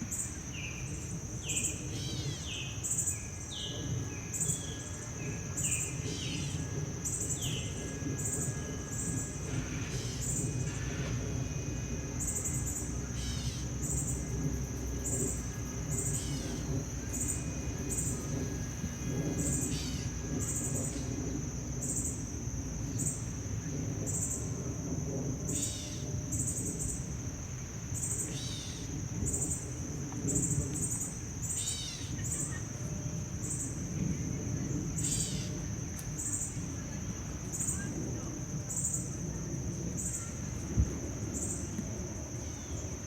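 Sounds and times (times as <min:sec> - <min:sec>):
low background rumble: 0:00.0 - 0:43.0.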